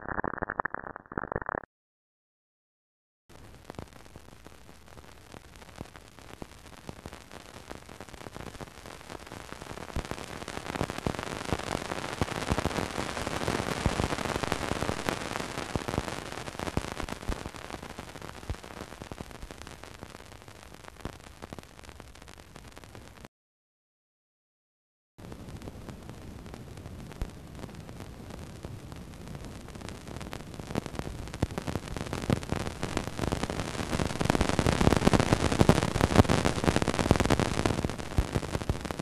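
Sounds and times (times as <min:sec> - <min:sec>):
crackling static hiss with clicks: 0:00.0 - 0:01.7, 0:03.3 - 0:23.3, 0:25.2 - 0:39.0.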